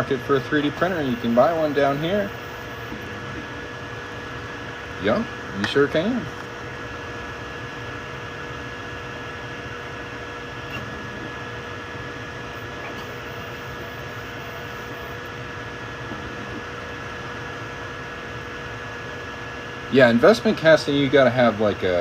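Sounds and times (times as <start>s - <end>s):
cooling fans whirring: 0.0s - 22.0s
printer hum and whine: 0.0s - 22.0s.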